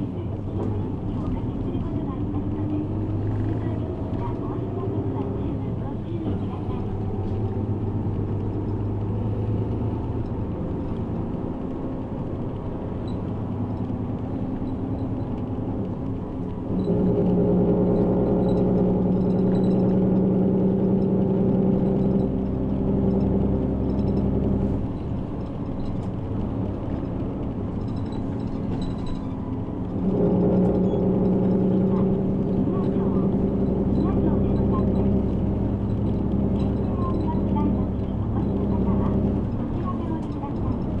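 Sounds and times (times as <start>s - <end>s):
bus engine: 0.0s - 41.0s
road noise: 0.0s - 41.0s.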